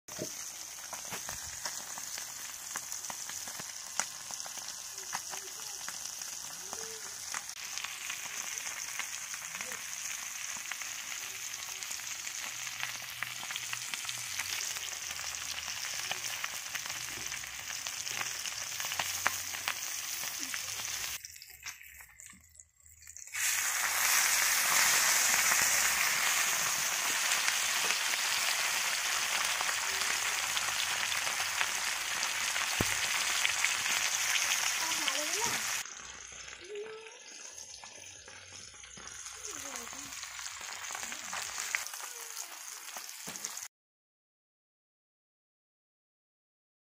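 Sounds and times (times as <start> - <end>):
fish sizzling in hot oil: 0.1 - 43.7.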